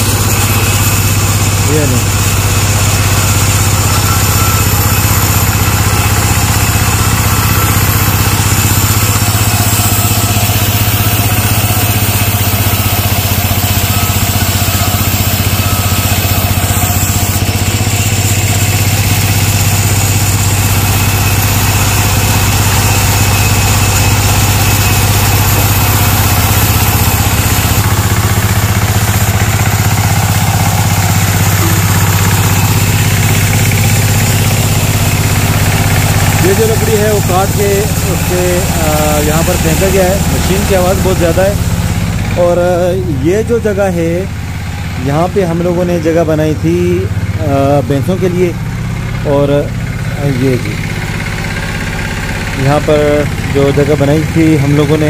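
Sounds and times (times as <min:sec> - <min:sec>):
band saw mill motor drone: 0:00.0 - 0:55.0.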